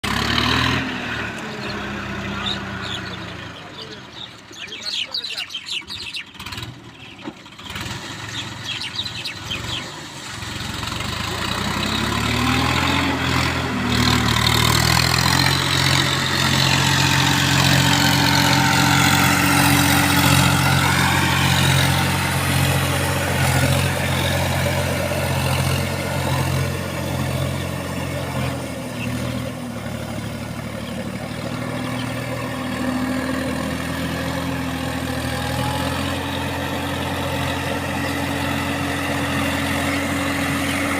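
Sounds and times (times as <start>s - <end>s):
tractor diesel engine starting: 0.0s - 40.9s.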